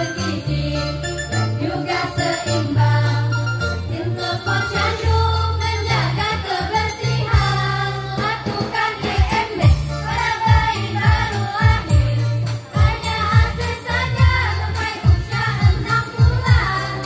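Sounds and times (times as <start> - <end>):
women's choir singing: 0.0 - 1.0, 1.6 - 17.0
bass line: 0.0 - 17.0.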